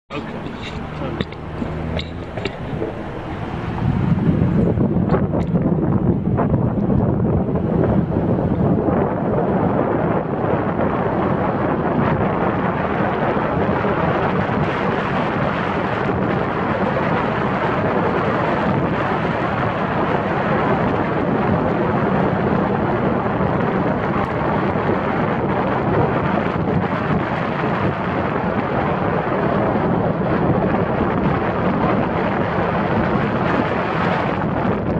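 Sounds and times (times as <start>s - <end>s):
tyre and road noise: 0.1s - 21.3s, 23.0s - 34.9s
wind buffeting microphone: 0.1s - 34.9s.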